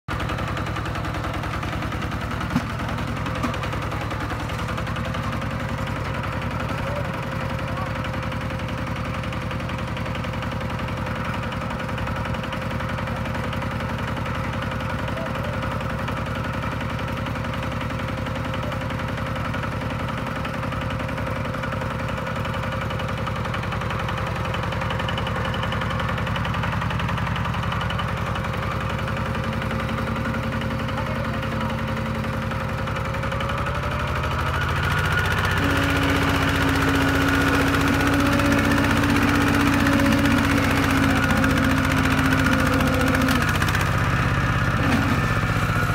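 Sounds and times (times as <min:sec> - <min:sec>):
diesel engine running: 0:00.1 - 0:45.9.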